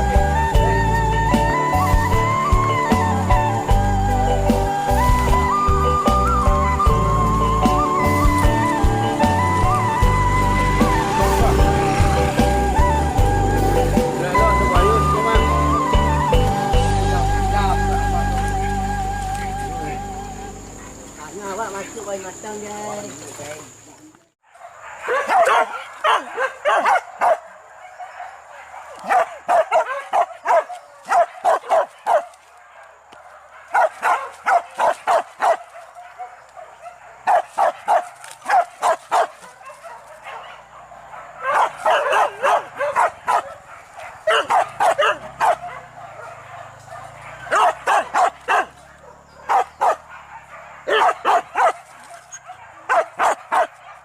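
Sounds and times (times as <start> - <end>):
dogs barking and yelping: 0.0 - 22.1, 24.5 - 54.0.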